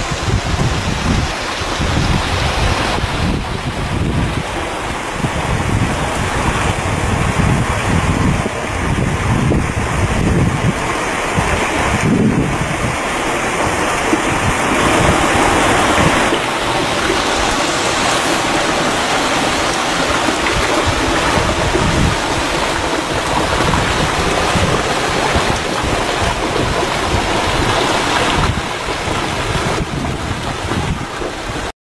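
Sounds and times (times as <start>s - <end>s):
waterfall rushing: 0.0s - 31.7s
wind buffeting microphone: 0.0s - 31.7s.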